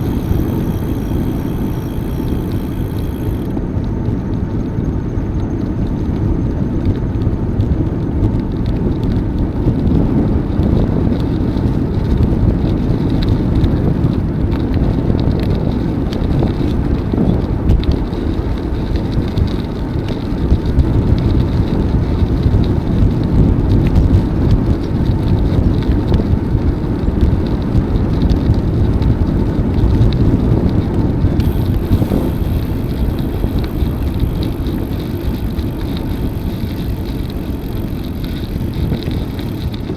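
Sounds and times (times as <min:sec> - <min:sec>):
bicycle tyres rolling on path: 0:00.0 - 0:39.9
wind on microphone: 0:00.0 - 0:39.9.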